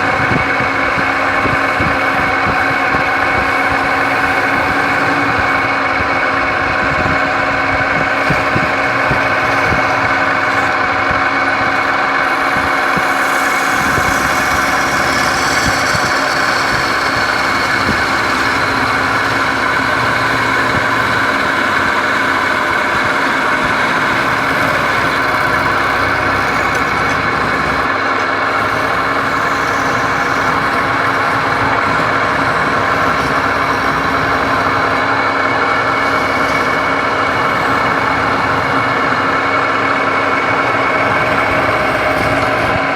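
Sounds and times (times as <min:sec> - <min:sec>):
lathe motor hum: 0:00.0 - 0:42.9.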